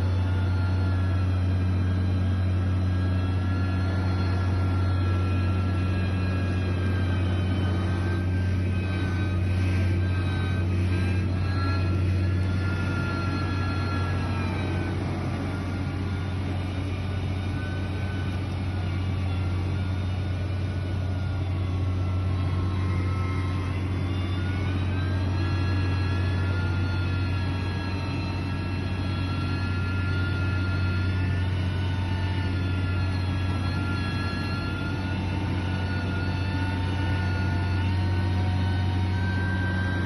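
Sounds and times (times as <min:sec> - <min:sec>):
diesel engine deep drone: 0:00.0 - 0:40.0
high mechanical whine: 0:00.0 - 0:40.0.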